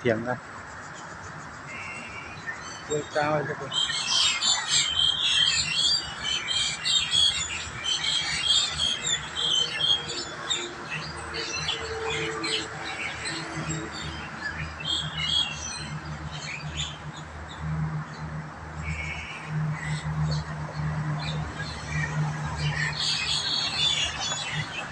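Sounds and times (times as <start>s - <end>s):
birds chattering harshly: 0.0s - 24.9s.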